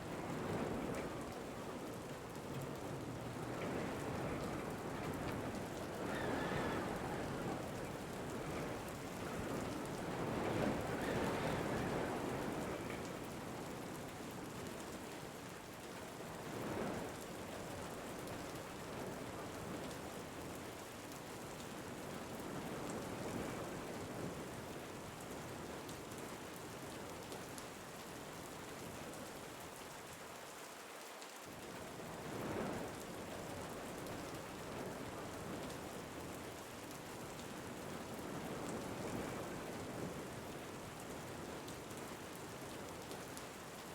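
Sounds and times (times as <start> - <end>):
rain with wind: 0.0 - 43.9.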